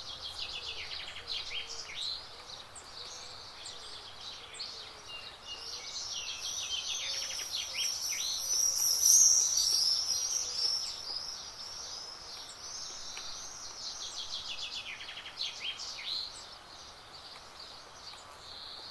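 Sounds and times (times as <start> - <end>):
songbirds singing: 0.0 - 18.9.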